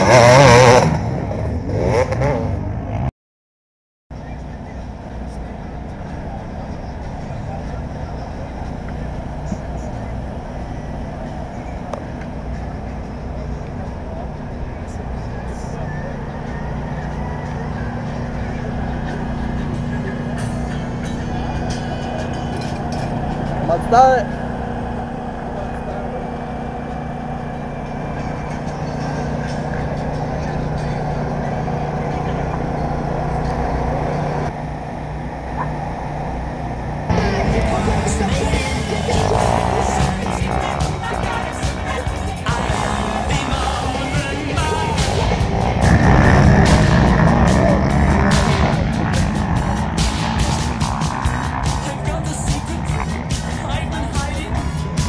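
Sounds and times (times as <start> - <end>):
engine drone: 0.0 - 3.1, 4.1 - 55.0.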